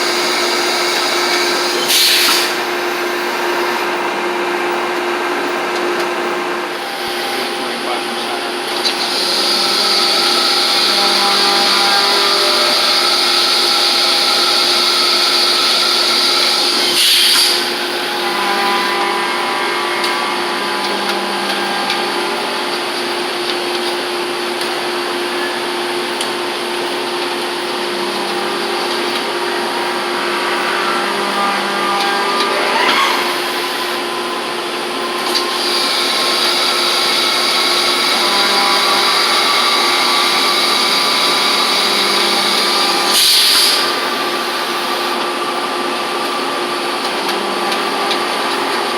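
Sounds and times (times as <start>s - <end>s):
high machine whine: 0.0s - 48.9s
machine hum: 0.0s - 48.9s.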